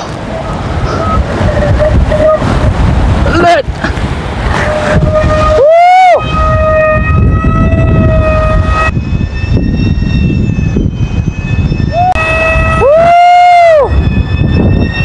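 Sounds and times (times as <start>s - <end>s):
wind buffeting microphone: 0.0s - 15.0s
kite flutes whistling: 0.8s - 2.5s, 4.5s - 15.0s.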